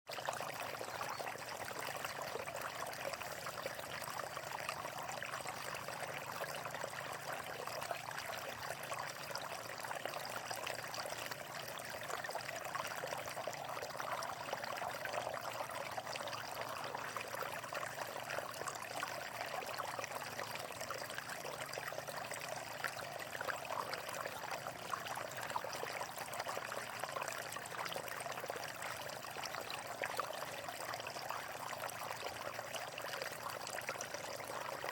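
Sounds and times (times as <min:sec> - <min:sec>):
water flowing and trickling: 0:00.1 - 0:34.9.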